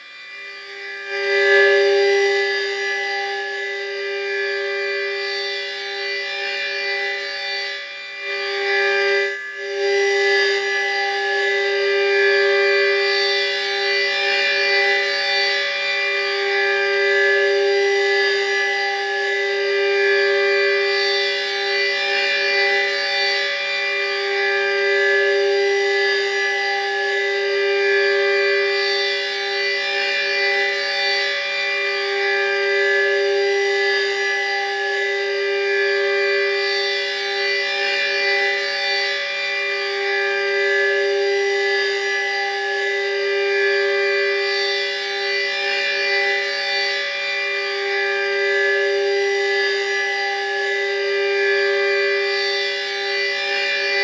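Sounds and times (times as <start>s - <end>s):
civil defence siren tone: 0.0s - 54.0s.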